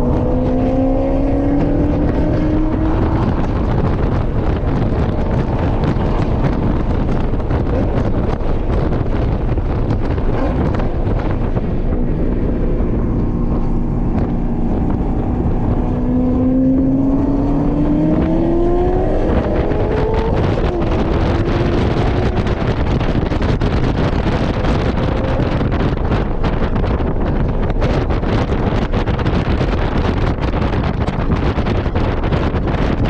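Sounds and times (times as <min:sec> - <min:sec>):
car engine accelerating: 0:00.0 - 0:33.0
wind noise on microphone: 0:00.0 - 0:33.0.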